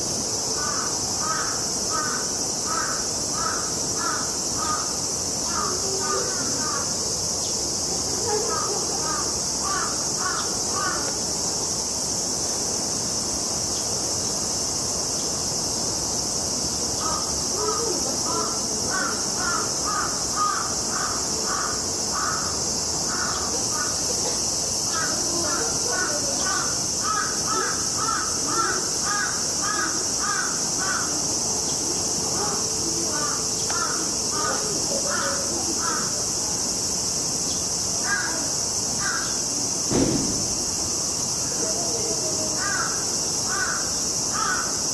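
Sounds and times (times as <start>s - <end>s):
cicadas droning: 0.0s - 44.9s.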